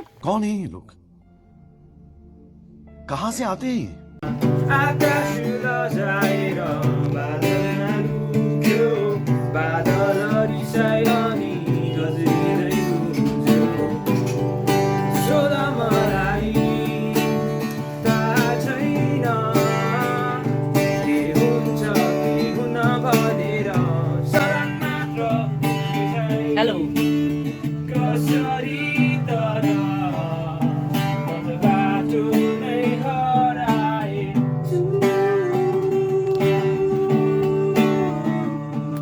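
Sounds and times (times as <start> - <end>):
person singing: 4.2 - 39.0
strummed acoustic guitar: 4.2 - 39.0.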